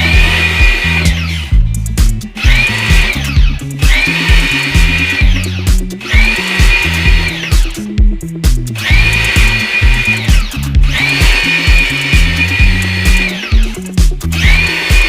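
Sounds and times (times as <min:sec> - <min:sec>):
electronic music with beat: 0:00.0 - 0:15.0
whining synth tone: 0:00.0 - 0:15.0.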